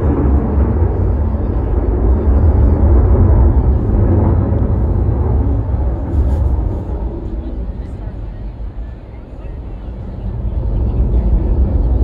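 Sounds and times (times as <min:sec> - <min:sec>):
jet flying past roar: 0:00.0 - 0:12.0.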